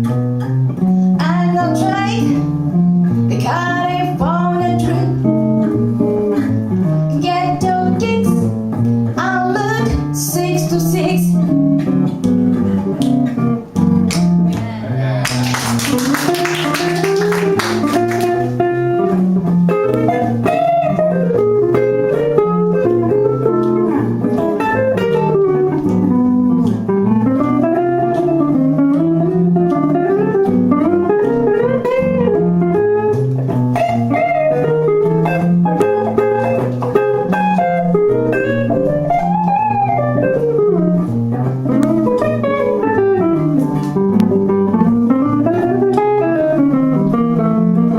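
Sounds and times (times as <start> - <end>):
bluesy guitar playing: 0.0 - 47.9.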